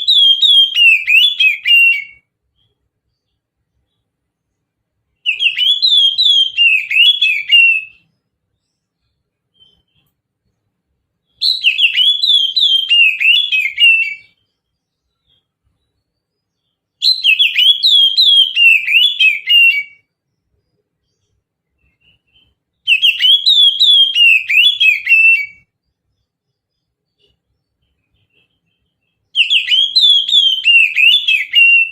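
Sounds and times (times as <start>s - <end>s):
bird singing whistled notes: 0.0s - 4.5s, 5.2s - 31.9s.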